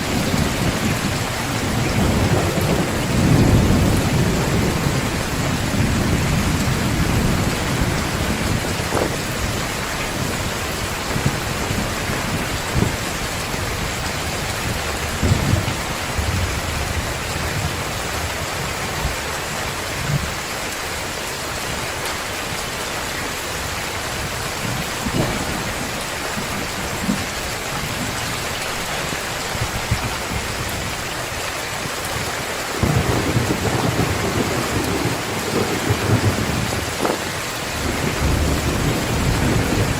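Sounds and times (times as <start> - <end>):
thunder rumbling: 0.0 - 20.4, 23.6 - 31.0, 32.1 - 39.9
heavy rain: 0.0 - 39.9.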